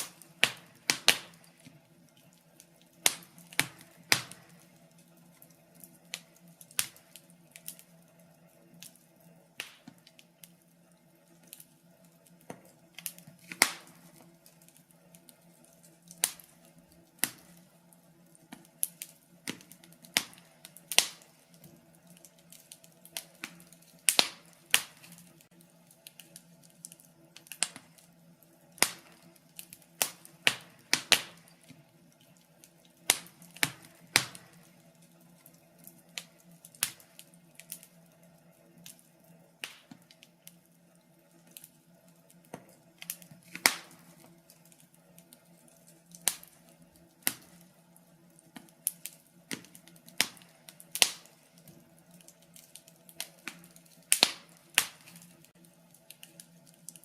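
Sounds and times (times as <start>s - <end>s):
faint steady hum: 0.0s - 57.0s
wood fire crackling: 0.0s - 57.0s.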